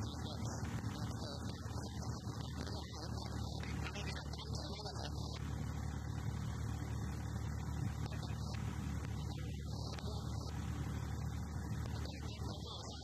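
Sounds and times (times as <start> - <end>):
light aircraft engine drone: 0.0 - 13.0.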